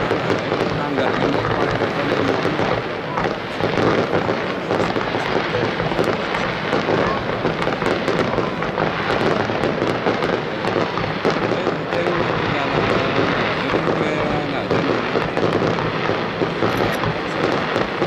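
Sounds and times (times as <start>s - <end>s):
fireworks launching and bursting: 0.0s - 18.0s
fireworks popping and crackling: 0.0s - 18.0s.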